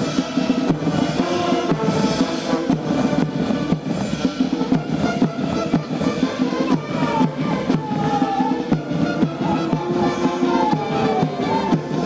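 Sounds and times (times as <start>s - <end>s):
brass and drums playing a march: 0.0s - 12.0s.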